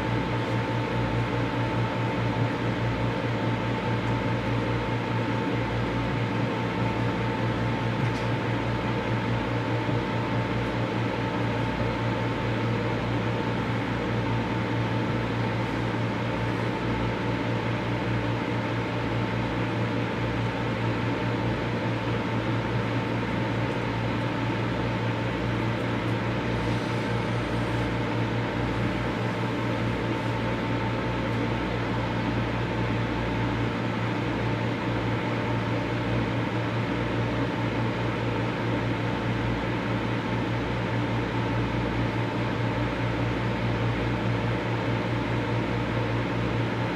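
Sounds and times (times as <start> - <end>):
microwave oven humming: 0.0 - 46.9.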